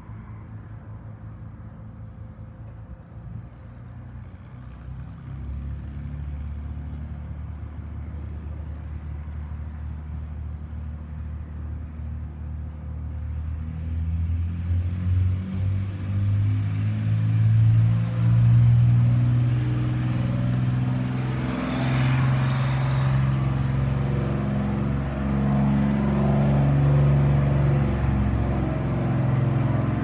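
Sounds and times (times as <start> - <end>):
propeller plane engine running: 0.0 - 30.0.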